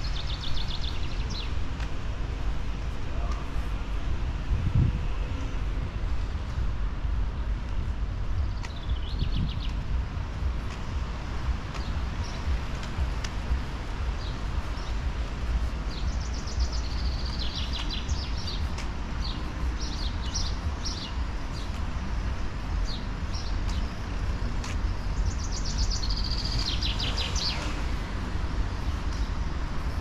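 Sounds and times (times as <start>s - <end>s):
songbird chirping: 0.0s - 3.6s, 7.2s - 30.0s
steady low rumble: 0.0s - 30.0s.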